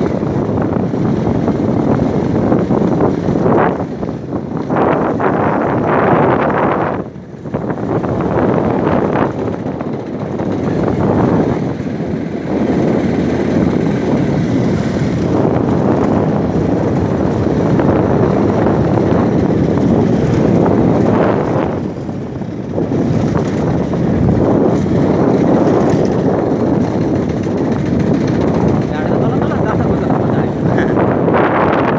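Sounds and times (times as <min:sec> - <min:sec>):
tyres on gravel road: 0:00.0 - 0:31.1
motorcycle engine running: 0:00.0 - 0:31.9
wind rumbling on microphone: 0:00.0 - 0:31.9.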